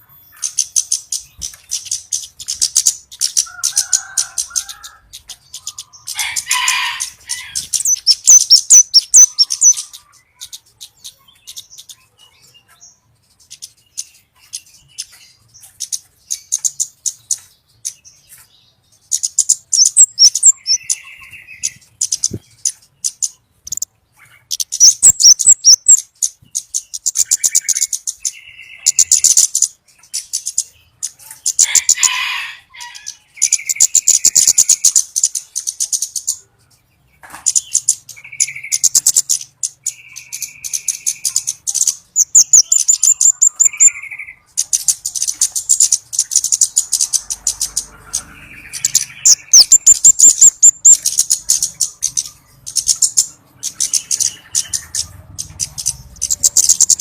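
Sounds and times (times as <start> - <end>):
high ticking bird calls: 0.0 - 57.0.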